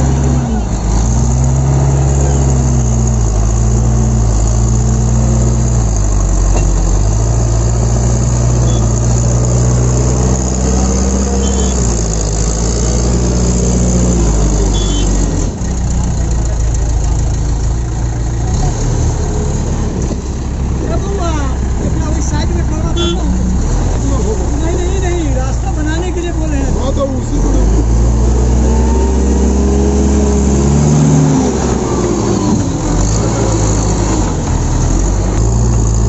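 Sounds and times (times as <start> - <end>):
backhoe diesel engine under load: 0.0 - 36.0.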